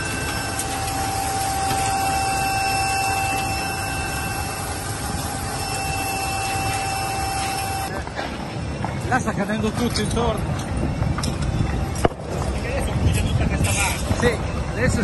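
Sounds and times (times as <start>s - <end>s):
constant high tone: 0.0s - 12.1s
fire rushing roar: 0.0s - 15.0s.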